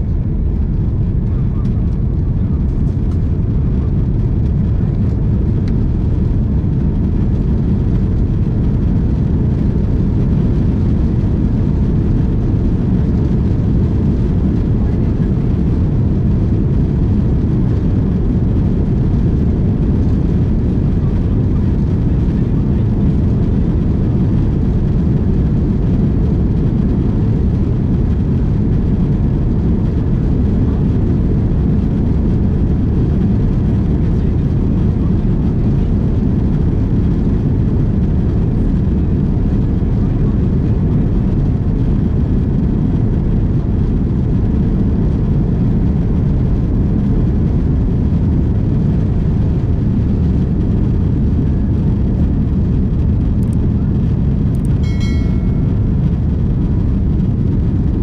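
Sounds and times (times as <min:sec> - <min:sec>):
jet engines at takeoff thrust: 0:00.0 - 0:58.0.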